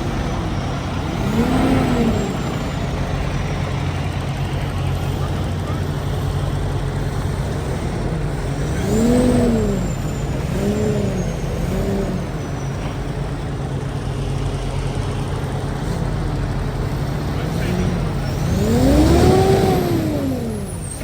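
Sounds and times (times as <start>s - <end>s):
diesel truck engine running: 0.0s - 21.0s
engine revving: 0.0s - 21.0s.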